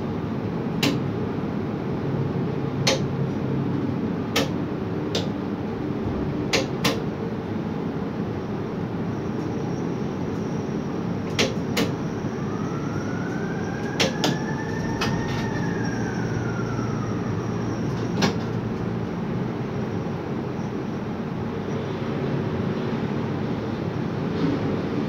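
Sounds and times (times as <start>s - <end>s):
crane motor drive whine: 0.0s - 22.0s
crane machinery rumble: 0.0s - 25.0s.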